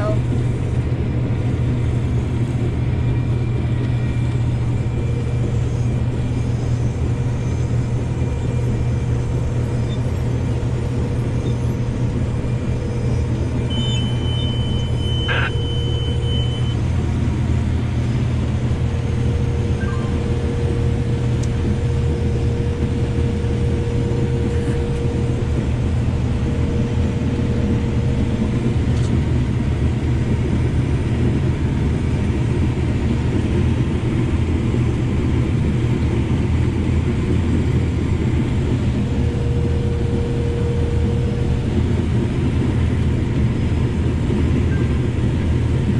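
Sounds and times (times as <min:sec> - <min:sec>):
steady hum: 0:00.0 - 0:45.8
combine harvester rumble: 0:00.0 - 0:45.9.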